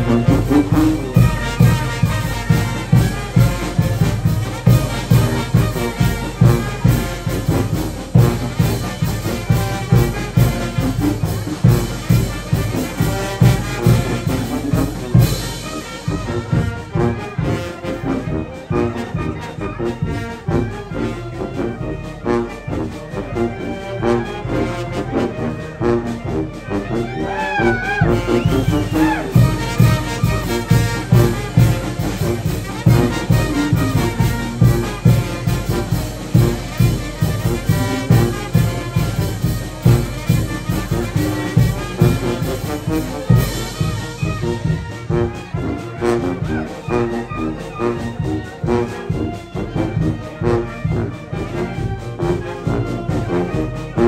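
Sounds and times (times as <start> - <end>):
brass band playing dance tune: 0.0 - 54.0.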